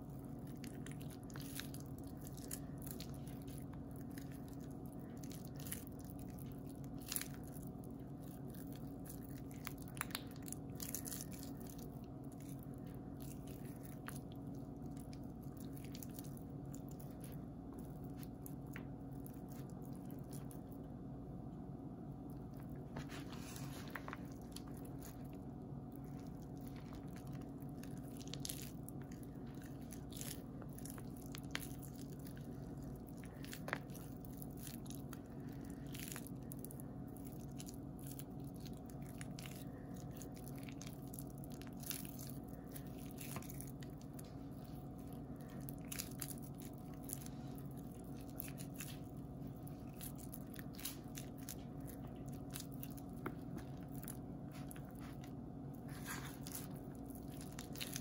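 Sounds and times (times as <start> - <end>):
soap scraps crunching in hands: 0.0 - 21.0, 22.2 - 58.0
steady low hum: 0.0 - 58.0.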